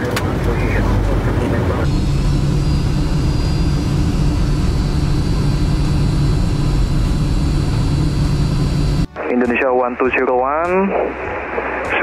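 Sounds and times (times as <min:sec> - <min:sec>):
jet engine roar in cabin: 0:00.0 - 0:12.0.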